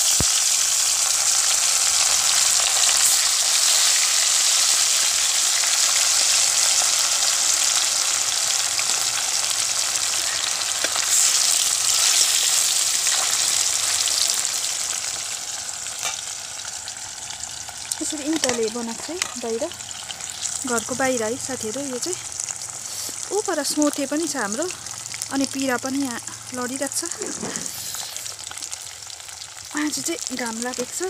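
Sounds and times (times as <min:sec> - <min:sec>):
fish frying in hot oil: 0:00.0 - 0:31.0.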